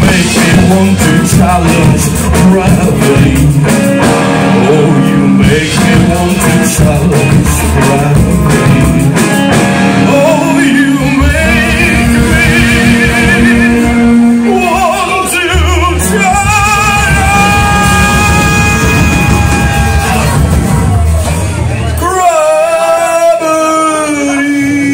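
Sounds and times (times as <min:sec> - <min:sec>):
upright double bass: 0:00.0 - 0:22.1
electric guitar: 0:00.0 - 0:24.9
live rock band: 0:00.0 - 0:24.9.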